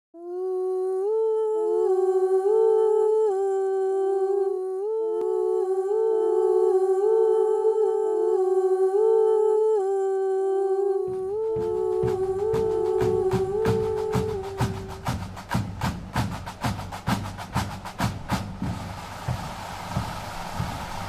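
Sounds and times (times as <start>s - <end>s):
voices humming a melody: 0.2s - 21.0s.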